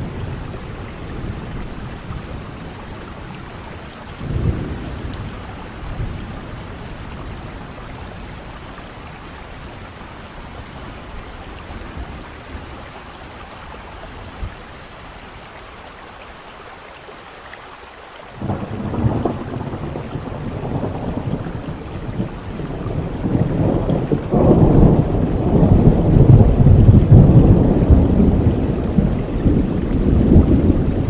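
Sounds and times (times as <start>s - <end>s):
thunder rumbling: 0.0s - 13.0s, 18.4s - 31.0s
steady rain: 0.0s - 31.0s.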